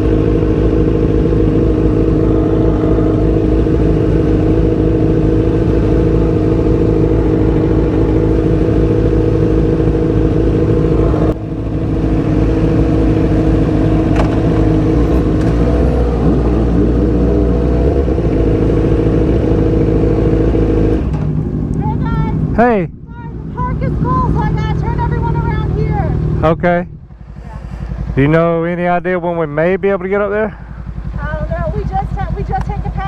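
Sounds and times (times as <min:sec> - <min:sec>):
motorcycle engine running: 0:00.0 - 0:33.0
road and wind noise: 0:00.0 - 0:33.0.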